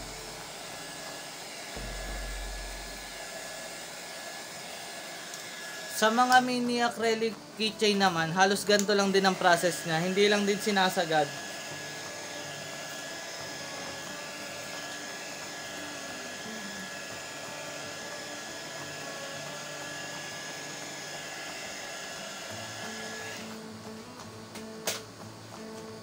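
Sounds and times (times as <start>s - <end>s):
heat gun blowing with whine: 0.0s - 23.8s.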